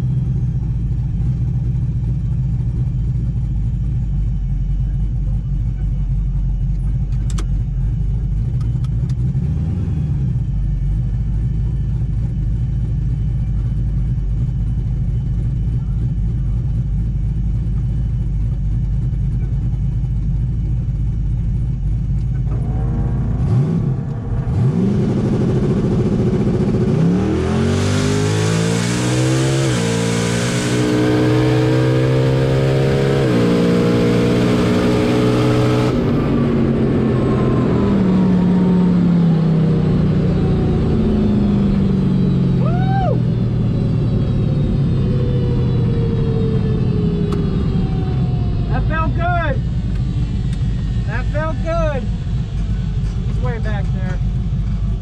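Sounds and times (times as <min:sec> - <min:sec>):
truck engine accelerating hard: 0:00.0 - 0:55.0.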